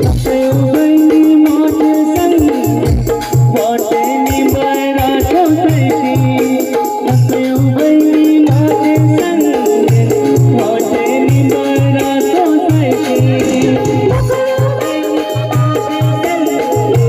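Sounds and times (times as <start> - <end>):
live band playing: 0.0 - 17.0
man singing high: 0.0 - 17.0
shaker ticking rhythm: 0.0 - 17.0.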